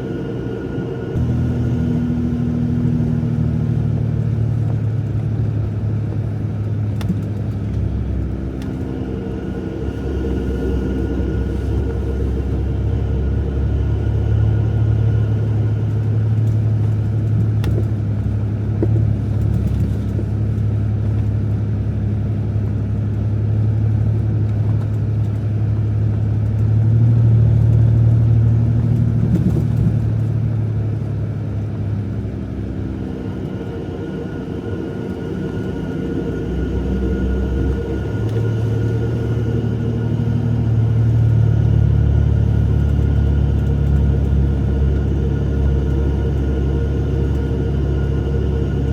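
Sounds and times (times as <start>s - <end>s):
diesel engine drone: 0.0s - 48.9s
road noise: 0.0s - 48.9s.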